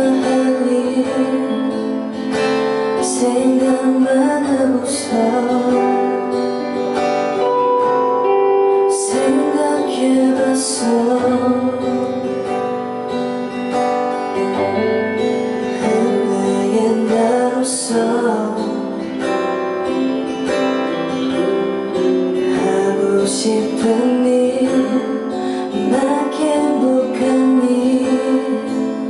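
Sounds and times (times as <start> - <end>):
woman singing: 0.0 - 6.8, 7.4 - 13.6, 14.2 - 20.0, 22.4 - 29.0
guitar strumming chords: 0.0 - 29.0.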